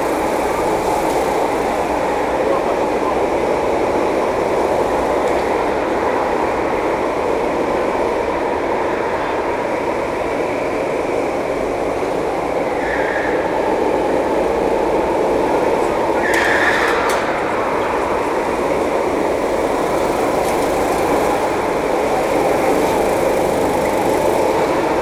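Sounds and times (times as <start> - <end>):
kart engines running: 0.0 - 25.0.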